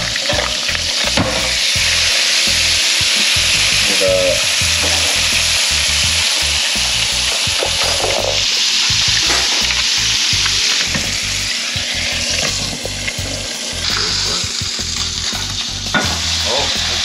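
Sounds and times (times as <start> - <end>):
fish fillet sizzling in oil: 0.0 - 17.0.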